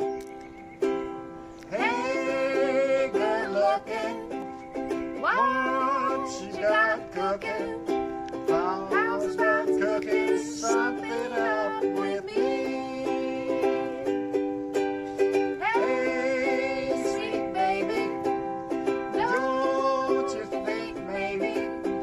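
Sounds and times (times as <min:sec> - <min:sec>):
ukulele strumming: 0:00.0 - 0:22.0
woman singing: 0:01.7 - 0:04.6, 0:05.2 - 0:14.4, 0:15.5 - 0:22.0.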